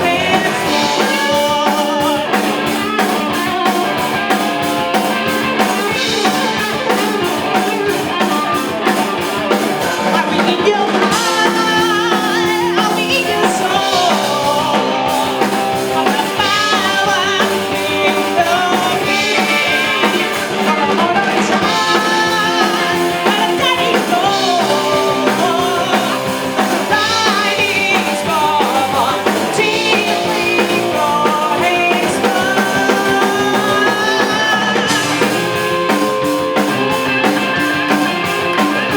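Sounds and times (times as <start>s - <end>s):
drum kit and bass: 0.0s - 38.9s
electric guitar: 0.0s - 38.9s.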